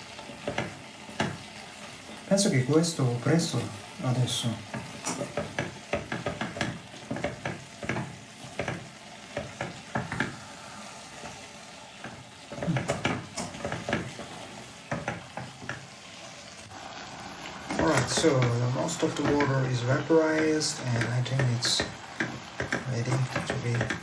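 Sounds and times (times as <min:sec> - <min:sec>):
steady sizzle: 0:00.0 - 0:24.0
utensil scraping frying pan: 0:03.2 - 0:24.0.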